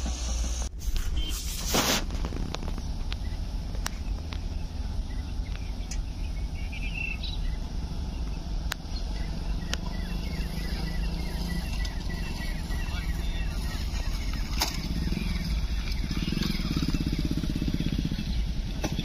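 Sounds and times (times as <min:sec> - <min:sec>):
bird chirps: 0:02.6 - 0:19.0.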